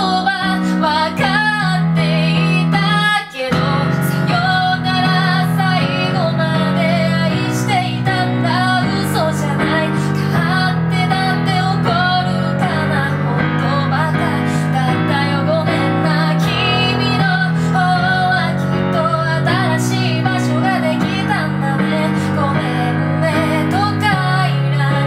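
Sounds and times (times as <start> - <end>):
piano chords: 0.0 - 25.0
woman singing: 0.0 - 25.0.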